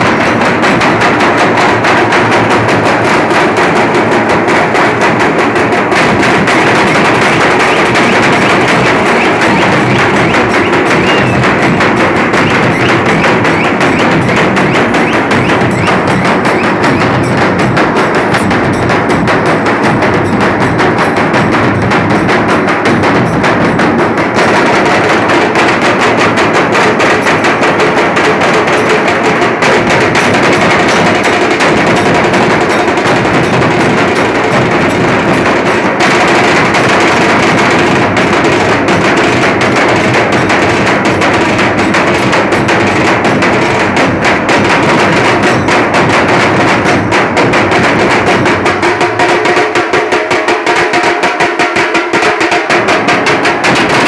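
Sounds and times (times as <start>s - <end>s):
dhol drums beaten with sticks: 0.0s - 54.0s.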